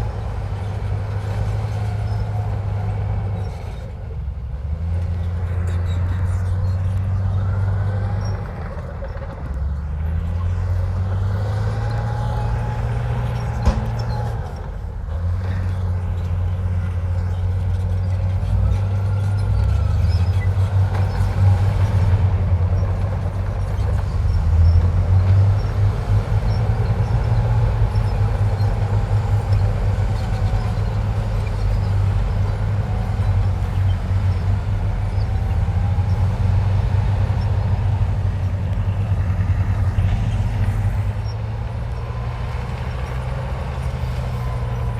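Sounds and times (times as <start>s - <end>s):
diesel machinery engine rumble: 0.0s - 44.9s.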